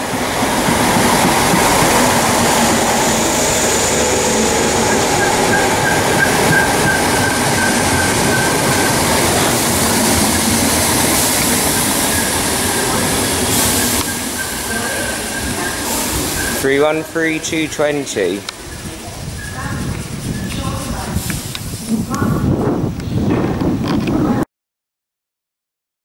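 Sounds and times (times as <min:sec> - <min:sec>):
train wheels clattering on rails: 0:00.0 - 0:21.7.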